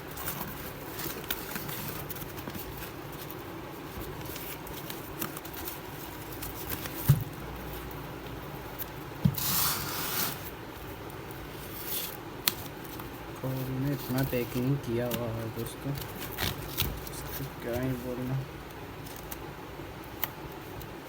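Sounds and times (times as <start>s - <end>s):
packaging rustling: 0.0s - 20.8s.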